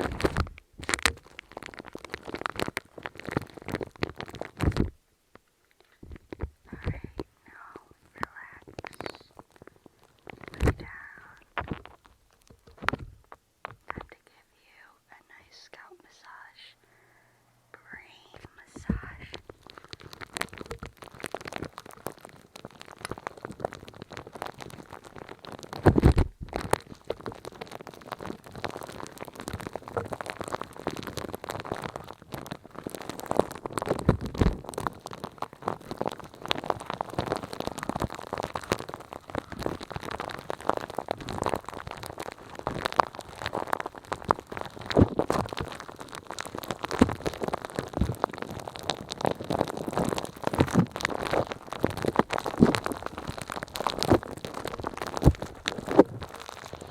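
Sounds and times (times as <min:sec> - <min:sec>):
close crackling and clicking: 0:00.0 - 0:56.9.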